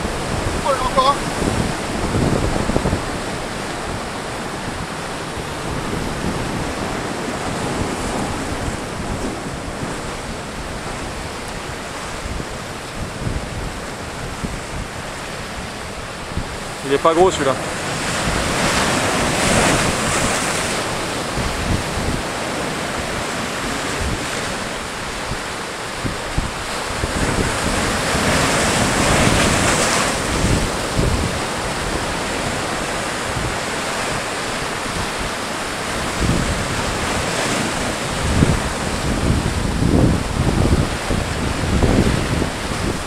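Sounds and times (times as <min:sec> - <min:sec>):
surf breaking over rocks: 0:00.0 - 0:43.0
wind buffeting microphone: 0:00.0 - 0:43.0.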